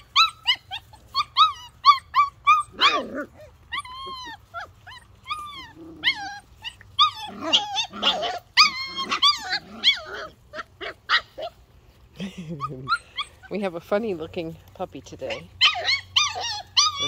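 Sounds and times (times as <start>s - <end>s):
puppies whining and yipping: 0.0s - 14.0s, 15.1s - 17.0s.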